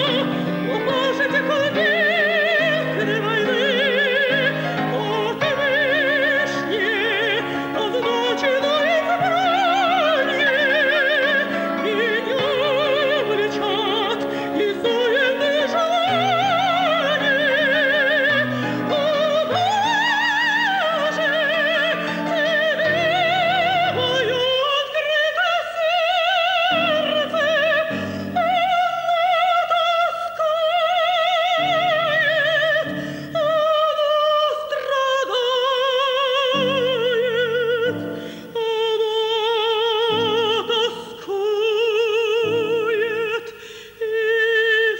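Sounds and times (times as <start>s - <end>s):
woman singing opera: 0.0s - 44.9s.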